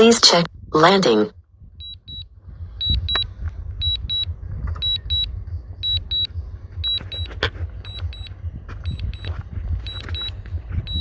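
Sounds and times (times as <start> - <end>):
low rumble: 0.0 - 11.0
high double warning beeps: 1.8 - 11.0.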